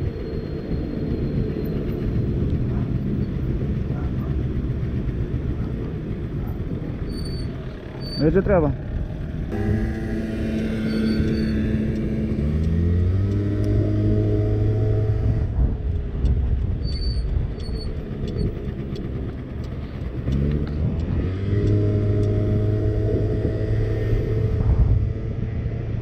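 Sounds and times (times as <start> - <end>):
road and wind noise: 0.0 - 26.0
scooter engine accelerating: 0.7 - 15.6, 17.3 - 26.0.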